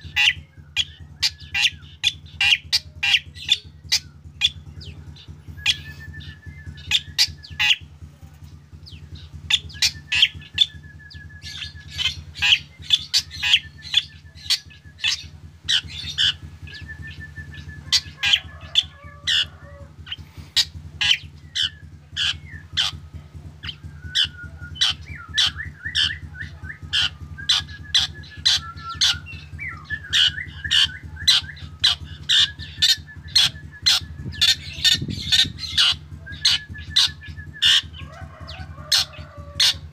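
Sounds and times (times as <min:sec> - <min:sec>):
bird singing with chips and trills: 0:00.0 - 0:39.9
low hum: 0:00.0 - 0:39.9.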